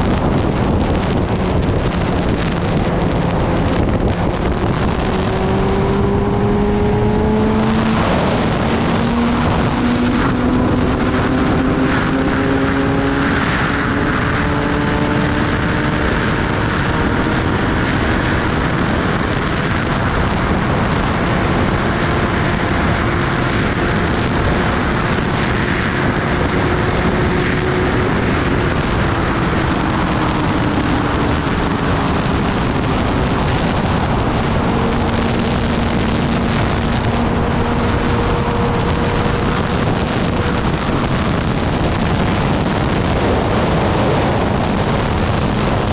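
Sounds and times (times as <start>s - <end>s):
motorcycle engine running: 0.0s - 45.9s
wind rush on microphone: 0.0s - 45.9s.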